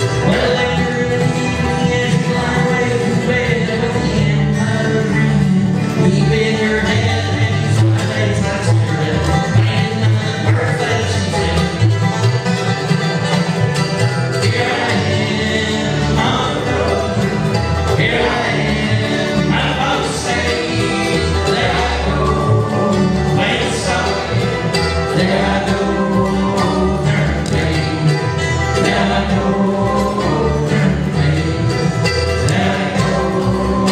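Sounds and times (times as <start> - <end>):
bluegrass band playing: 0.0 - 33.9.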